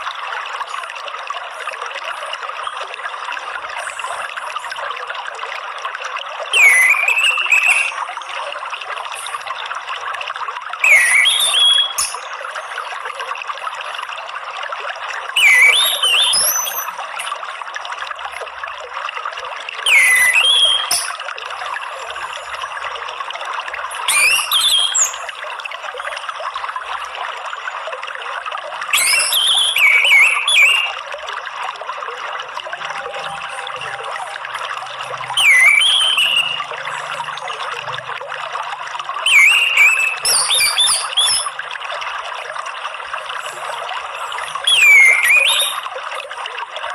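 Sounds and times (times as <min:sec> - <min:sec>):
trickling water: 0:00.0 - 0:46.9.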